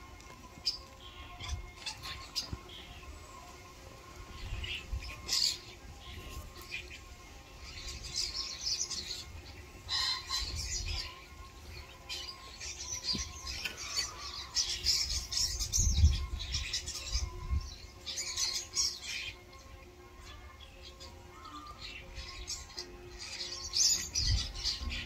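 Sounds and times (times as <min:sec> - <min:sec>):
starlings squawking and chattering: 0:00.0 - 0:25.0.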